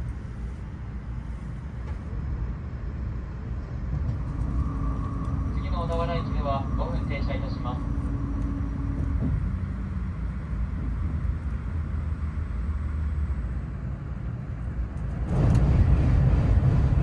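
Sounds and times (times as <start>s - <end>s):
train running noise rumble: 0.0s - 17.0s.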